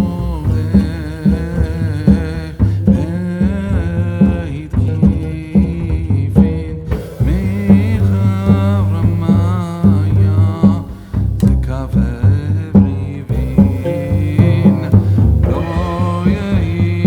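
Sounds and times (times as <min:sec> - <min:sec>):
background music with beat: 0:00.0 - 0:17.0.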